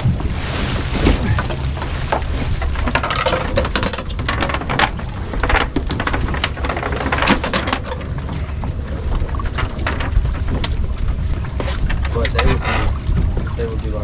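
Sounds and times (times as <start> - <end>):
fish flopping on boat deck: 0.0 - 14.0
steady low rumble: 0.0 - 14.0.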